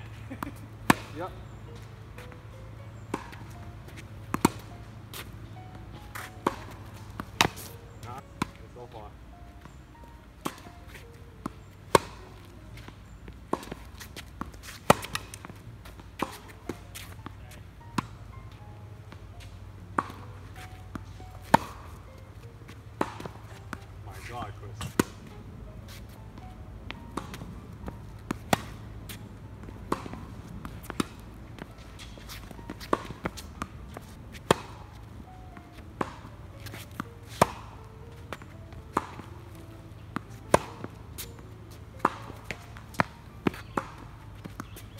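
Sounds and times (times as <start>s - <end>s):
rackets striking tennis ball: 0.0s - 44.9s
tennis ball bouncing: 0.0s - 44.9s.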